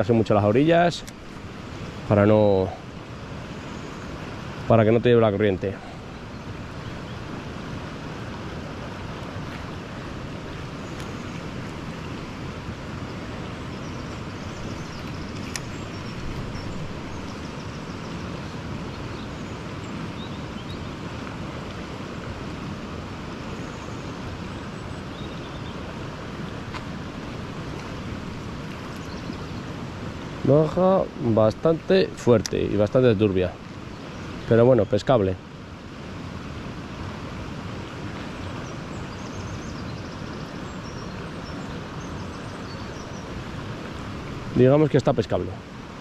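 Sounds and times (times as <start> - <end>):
fast river rushing: 0.0 - 46.0.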